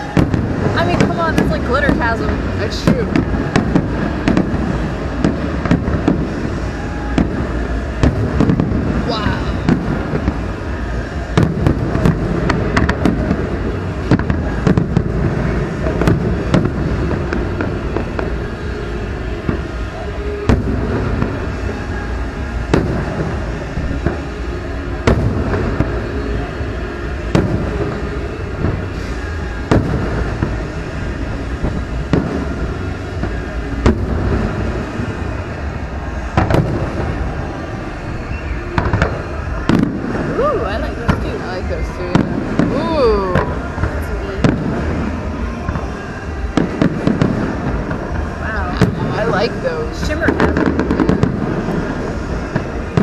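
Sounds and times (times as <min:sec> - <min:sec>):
continuous low rumble: 0:00.0 - 0:53.0
fireworks bursting: 0:00.0 - 0:53.0.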